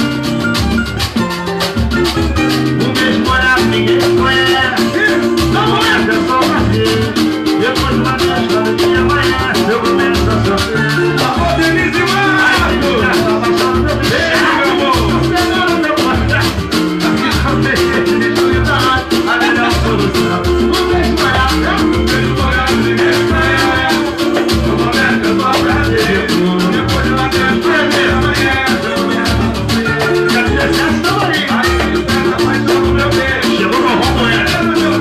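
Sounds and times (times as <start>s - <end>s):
fast hand percussion: 0.0s - 35.0s
repeating bass line: 0.0s - 35.0s.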